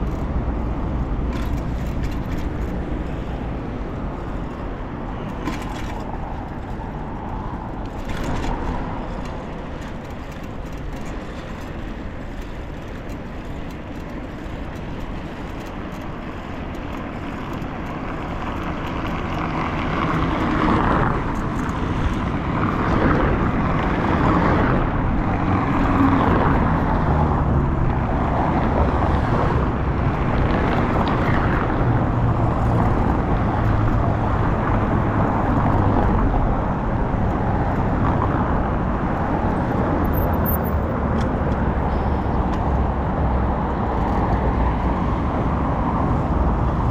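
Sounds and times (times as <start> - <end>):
road traffic: 0.0 - 46.9.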